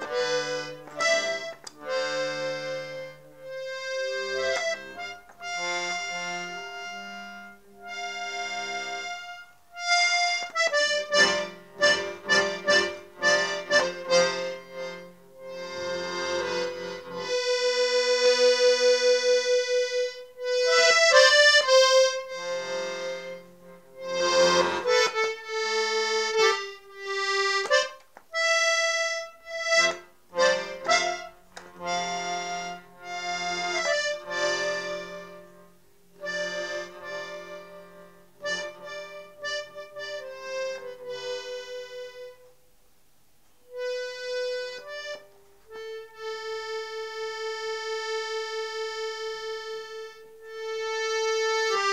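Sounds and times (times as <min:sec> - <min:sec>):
accordion playing a tune: 0:00.0 - 0:42.8, 0:43.6 - 0:51.9.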